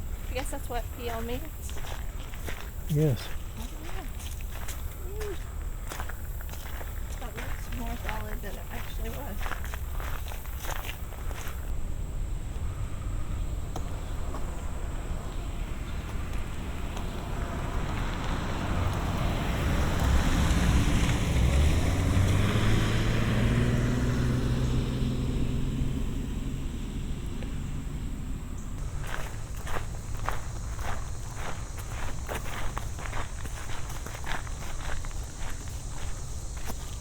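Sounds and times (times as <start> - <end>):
vehicle passing on road: 0.0 - 37.0.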